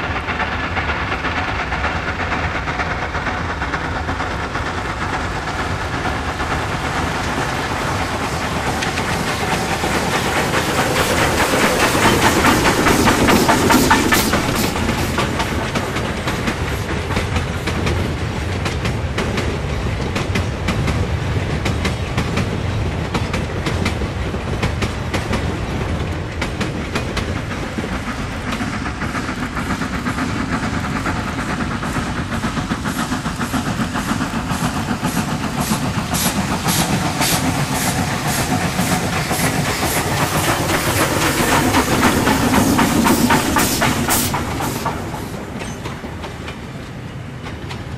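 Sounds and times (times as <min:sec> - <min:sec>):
steam locomotive exhaust beats: 0:00.0 - 0:47.9
train wagons clattering over rail joints: 0:00.0 - 0:47.9.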